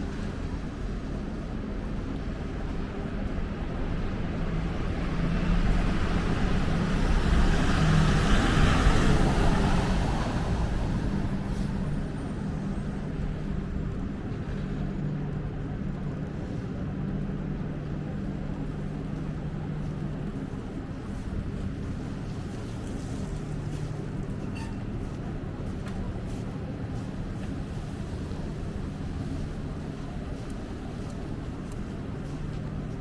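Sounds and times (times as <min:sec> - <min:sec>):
steady low engine hum: 0:00.0 - 0:33.0.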